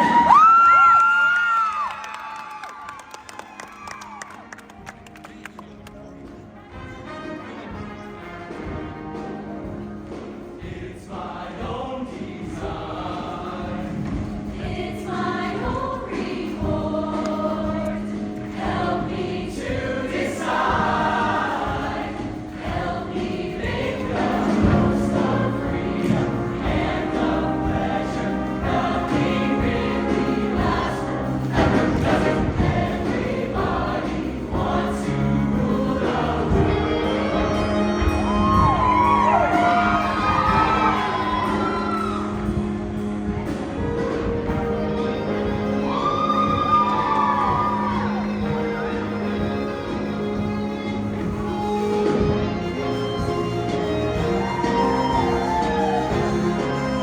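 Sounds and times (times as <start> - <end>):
live band with drums: 0.0 - 1.4, 3.8 - 57.0
choir singing in harmony: 5.2 - 57.0.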